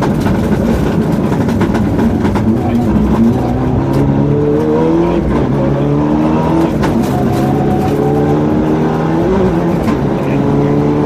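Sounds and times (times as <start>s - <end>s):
engine sharp crack: 0.0s - 10.4s
car engine revving: 0.0s - 11.0s.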